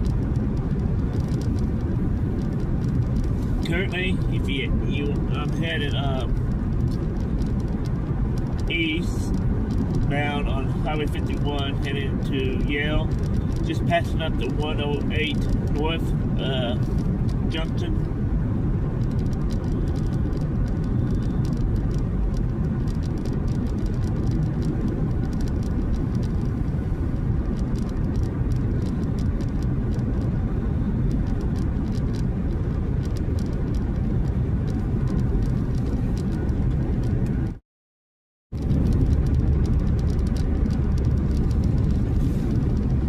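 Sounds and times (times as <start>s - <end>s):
small irregular ticks: 0.0s - 4.4s, 5.1s - 16.1s, 19.0s - 37.6s, 38.6s - 43.0s
car interior road rumble: 0.0s - 37.6s, 38.6s - 43.0s.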